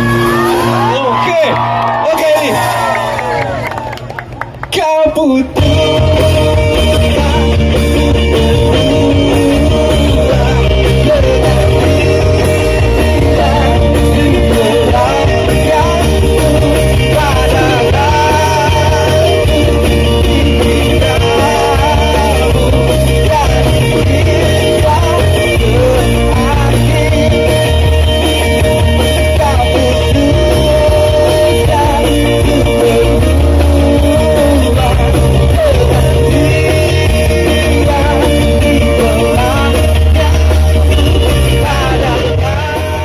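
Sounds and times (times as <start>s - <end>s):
live band playing pop-rock: 0.0s - 43.0s
person singing: 5.1s - 43.0s
steady bass beat: 5.6s - 43.0s.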